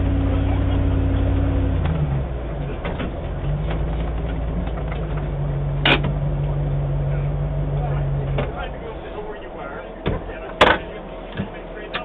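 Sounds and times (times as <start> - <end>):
car engine at low revs: 0.0 - 12.0.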